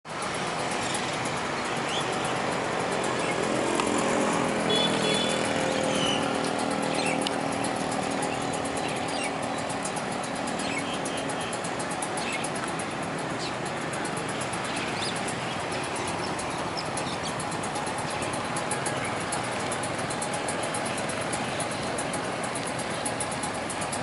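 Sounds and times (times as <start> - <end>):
road traffic: 0.0 - 24.0
engine passing by: 0.1 - 24.0.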